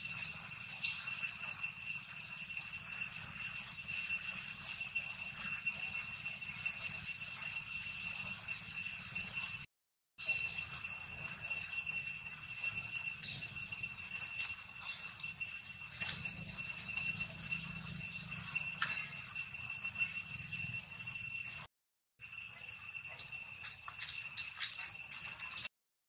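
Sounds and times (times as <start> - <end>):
shrill insect drone: 0.0 - 25.7.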